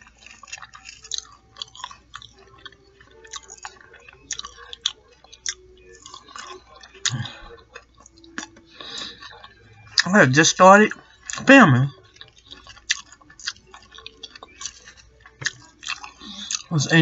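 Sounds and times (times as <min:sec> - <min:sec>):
small crunches: 0:00.0 - 0:10.1, 0:11.0 - 0:16.8
mouth chewing with wet clicks: 0:00.0 - 0:17.0.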